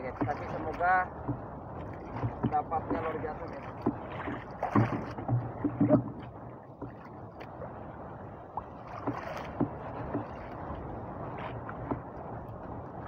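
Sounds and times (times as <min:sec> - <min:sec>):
water lapping against boat hull: 0:00.0 - 0:13.0
wind: 0:00.0 - 0:13.0.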